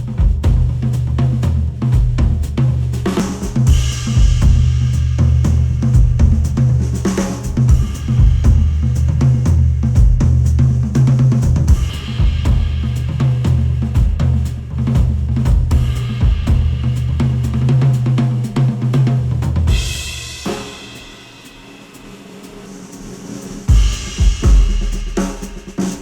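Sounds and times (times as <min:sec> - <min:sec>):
heavy bass line: 0:00.0 - 0:20.3, 0:23.7 - 0:25.6
drum kit: 0:00.0 - 0:26.0.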